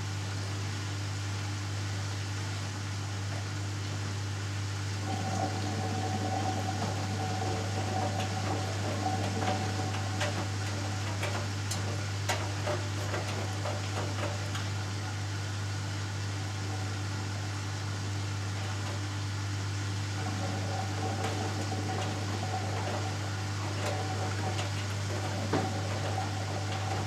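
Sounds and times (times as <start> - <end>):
washing machine hum: 0.0 - 27.0.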